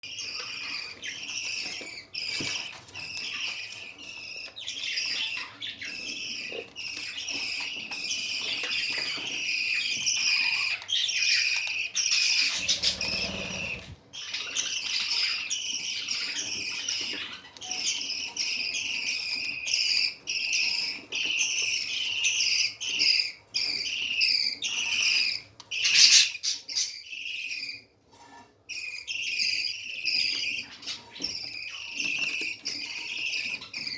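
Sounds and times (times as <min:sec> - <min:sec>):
budgerigars chirping: 0:00.1 - 0:27.8.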